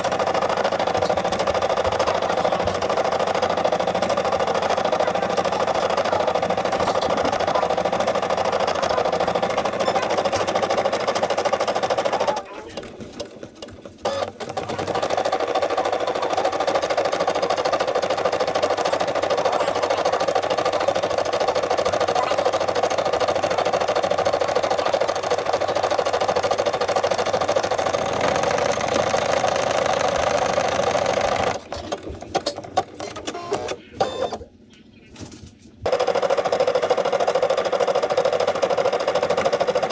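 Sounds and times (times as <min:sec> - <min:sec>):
embroidery machine stitching: 0:00.0 - 0:34.5, 0:35.8 - 0:39.9.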